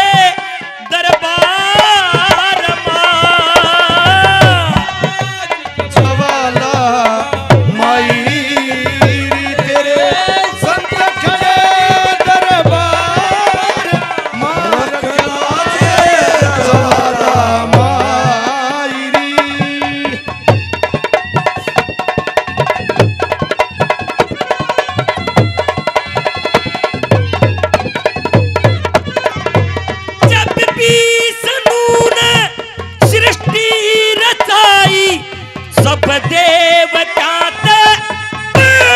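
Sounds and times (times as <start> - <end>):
hand drum beating: 0.9 - 38.9.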